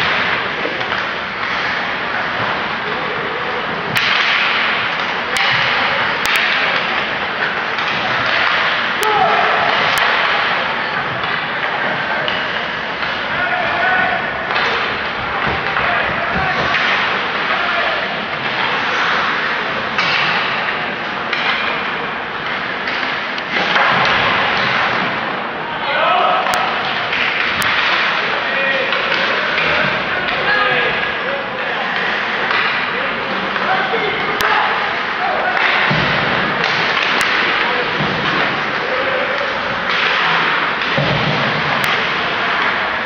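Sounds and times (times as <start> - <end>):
hockey sticks and puck knocking: 0.0 - 3.0, 3.6 - 25.4, 26.4 - 43.0.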